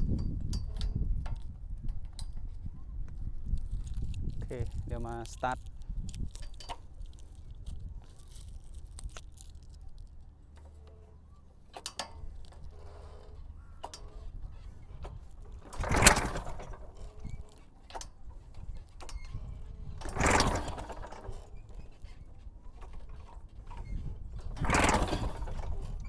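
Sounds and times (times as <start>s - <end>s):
small engine pull-start cranking: 3.6s - 26.0s.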